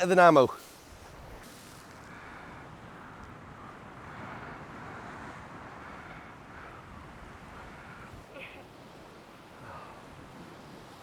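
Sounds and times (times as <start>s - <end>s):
sea waves washing: 0.0s - 11.0s.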